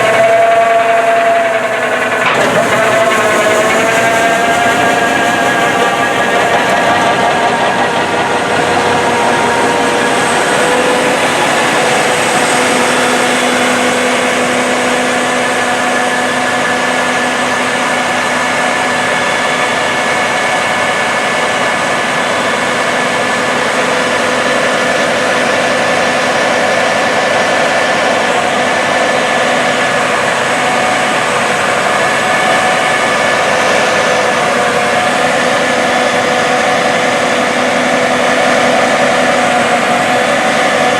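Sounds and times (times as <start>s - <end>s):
combine harvester drone: 0.0s - 40.9s.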